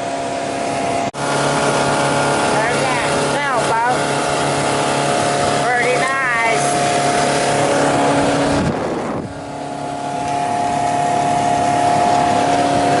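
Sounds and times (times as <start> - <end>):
motorboat engine running: 0.0 - 13.0
water rushing: 0.0 - 13.0
wind: 0.0 - 13.0.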